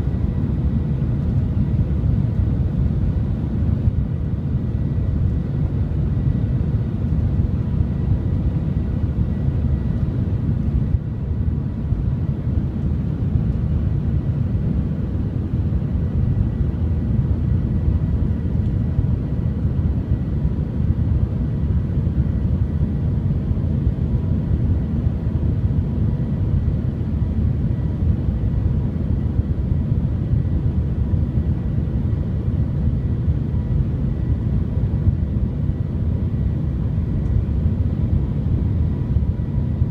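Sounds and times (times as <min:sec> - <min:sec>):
faint high hum: 0:00.0 - 0:39.9.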